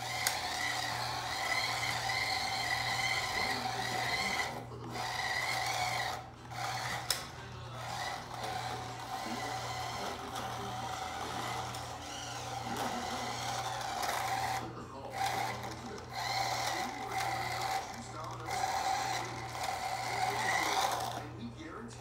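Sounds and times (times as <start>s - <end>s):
rc truck motor whining: 0.0s - 22.0s.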